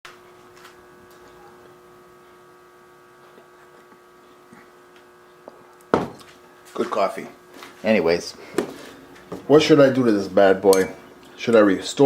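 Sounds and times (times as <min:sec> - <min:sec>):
electrical hum: 0:00.1 - 0:12.0.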